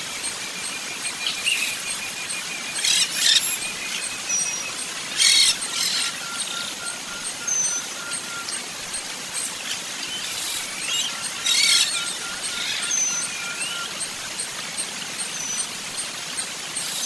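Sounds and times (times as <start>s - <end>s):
birds chirping: 0.0s - 17.0s
steady outdoor hiss: 0.0s - 17.0s.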